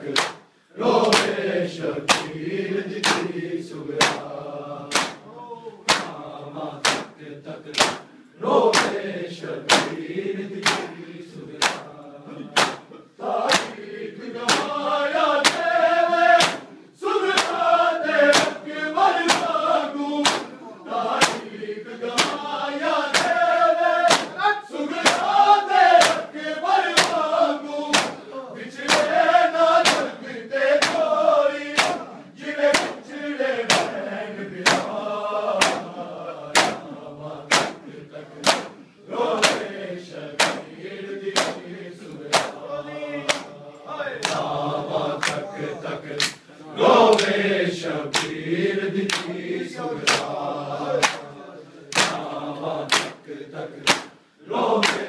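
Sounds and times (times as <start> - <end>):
group chanting a lament: 0.0 - 55.0
hands slapping chests: 0.1 - 1.4, 2.0 - 4.3, 4.9 - 5.3, 5.9 - 6.2, 6.8 - 9.0, 9.6 - 21.5, 22.1 - 39.8, 40.4 - 42.6, 43.2 - 43.6, 44.2 - 45.5, 46.1 - 47.4, 48.1 - 48.4, 49.0 - 49.4, 50.0 - 50.4, 51.0 - 54.2, 54.8 - 55.0.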